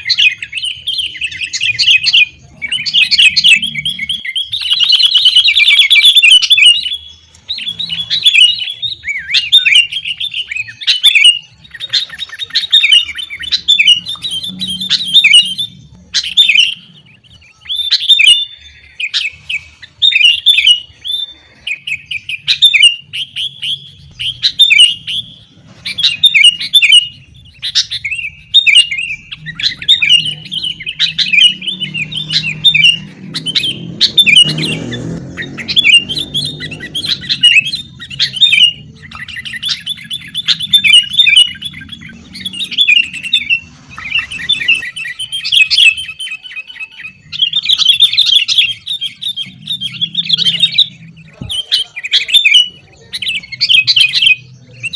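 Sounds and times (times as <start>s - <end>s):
bulbul chattering song: 0.0s - 54.9s.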